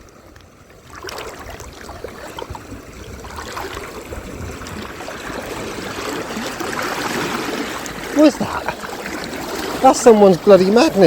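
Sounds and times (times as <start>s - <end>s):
river water trickling: 0.0s - 11.0s.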